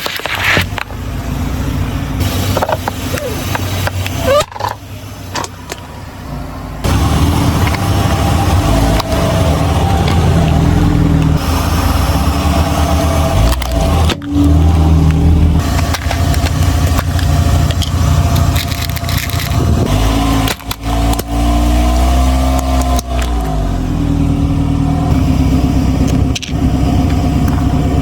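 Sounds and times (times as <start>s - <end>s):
car engine running at low speed: 0.0s - 28.0s.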